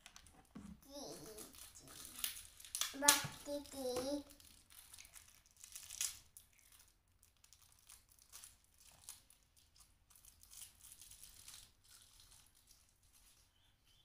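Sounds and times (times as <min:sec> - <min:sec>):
plastic wrapper crinkling: 0:00.0 - 0:13.5.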